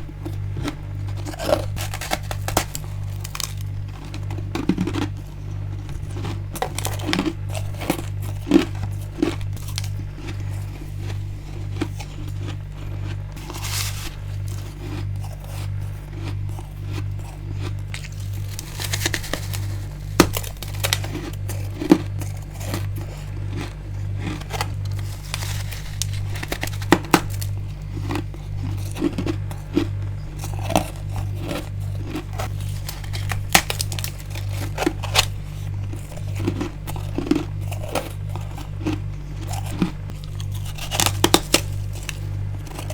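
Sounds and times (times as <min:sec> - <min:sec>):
crunching ice: 0:00.0 - 0:42.9
low pulsing hum: 0:00.0 - 0:42.9.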